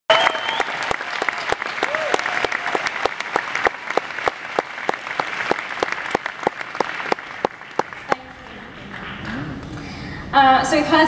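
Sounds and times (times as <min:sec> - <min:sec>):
audience applauding: 0:00.1 - 0:09.6.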